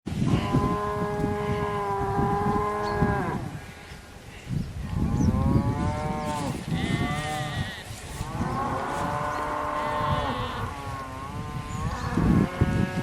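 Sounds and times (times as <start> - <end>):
cows mooing: 0.3 - 3.5, 4.9 - 13.0.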